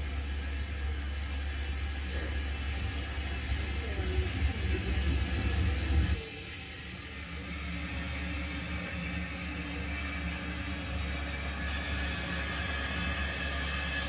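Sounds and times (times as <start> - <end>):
model locomotive humming and whirring: 0.0 - 14.0.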